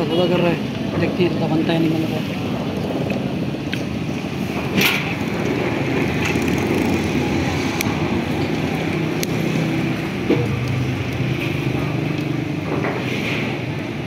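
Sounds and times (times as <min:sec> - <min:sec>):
vehicle engines on road: 0:00.0 - 0:14.0.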